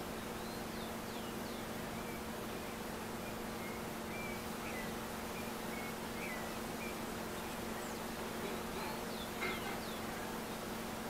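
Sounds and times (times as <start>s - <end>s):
birds chirping: 0.0s - 11.0s
low hum and hiss: 0.0s - 11.0s.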